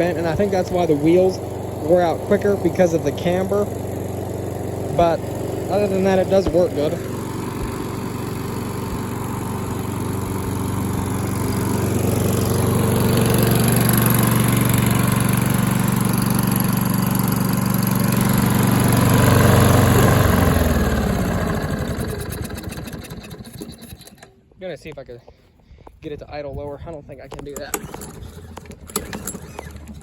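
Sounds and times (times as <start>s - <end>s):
mower engine running: 0.0s - 24.4s, 27.4s - 30.0s.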